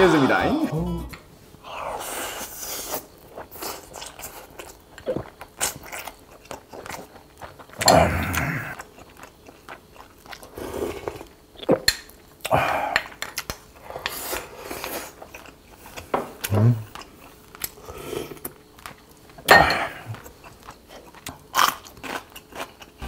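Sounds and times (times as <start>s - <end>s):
person chewing food: 2.4s - 23.0s.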